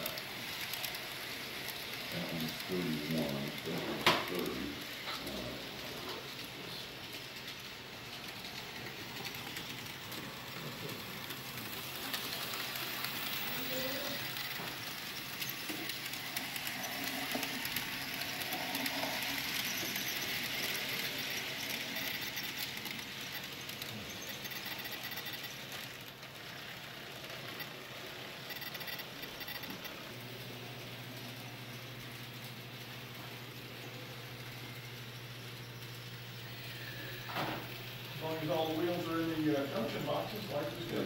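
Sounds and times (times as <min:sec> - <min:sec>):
model train whirring on track: 0:00.0 - 0:41.0.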